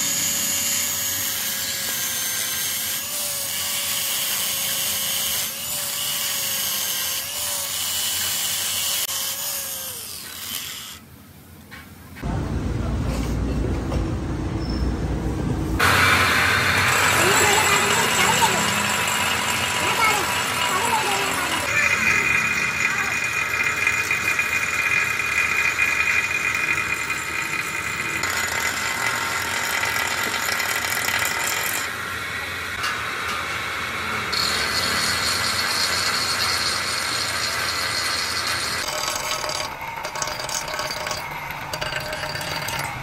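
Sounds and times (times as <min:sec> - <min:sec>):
angle grinder grinding metal: 0:00.0 - 0:11.1, 0:15.8 - 0:43.0.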